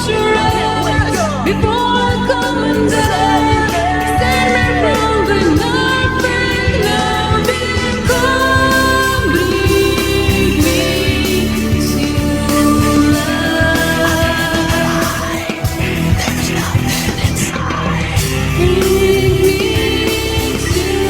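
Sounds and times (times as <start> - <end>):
backing track with steady beat: 0.0 - 21.0
person singing: 0.0 - 21.0.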